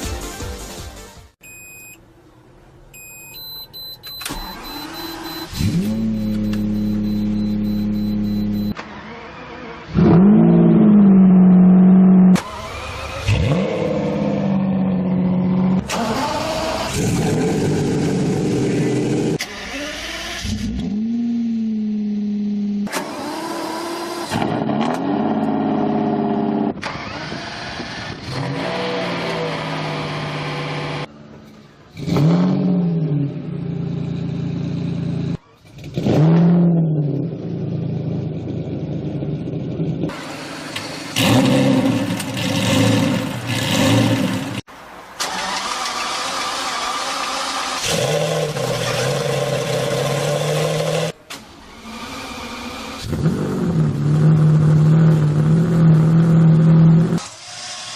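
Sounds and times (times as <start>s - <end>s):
car engine idling and revving: 2.1s - 57.9s.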